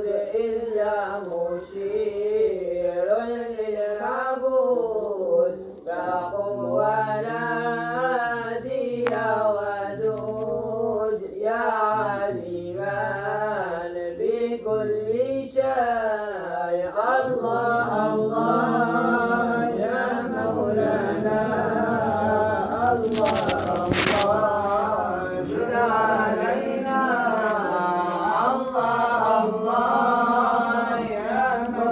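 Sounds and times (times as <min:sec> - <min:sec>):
person chanting ornamented melody: 0:00.0 - 0:31.9.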